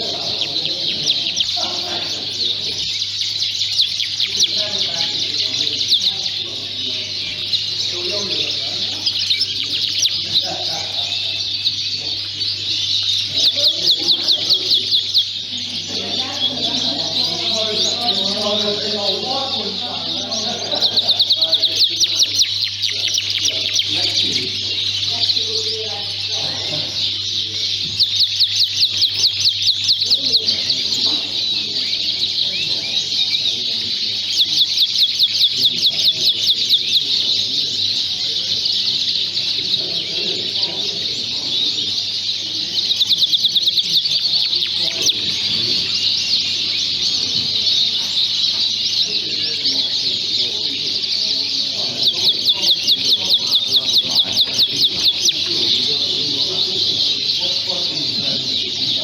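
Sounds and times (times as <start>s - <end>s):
canaries singing: 0.0s - 59.0s.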